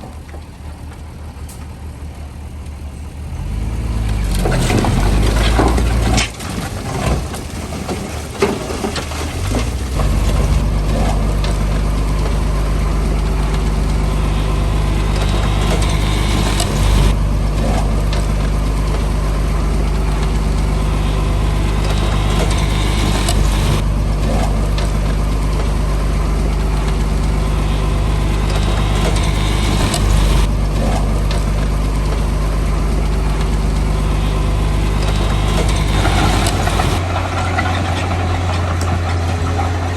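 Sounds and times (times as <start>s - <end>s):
heavy diesel engine droning: 0.0s - 39.9s
irregular clanks and knocks: 4.1s - 39.9s.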